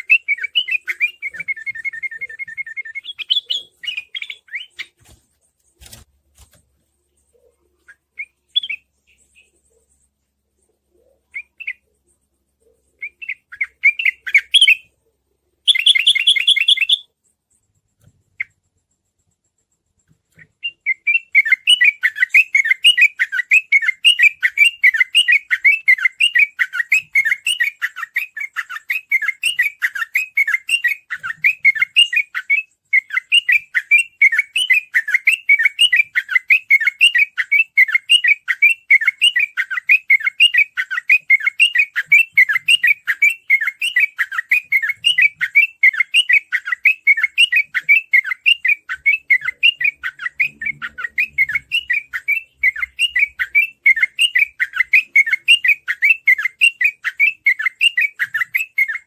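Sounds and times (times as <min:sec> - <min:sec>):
bird song rapid chattering: 0:00.0 - 0:15.0, 0:15.6 - 0:59.0.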